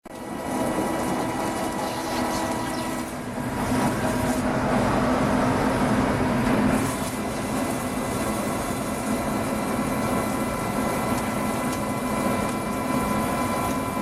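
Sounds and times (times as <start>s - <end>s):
lathe mechanical hum: 0.0s - 14.0s.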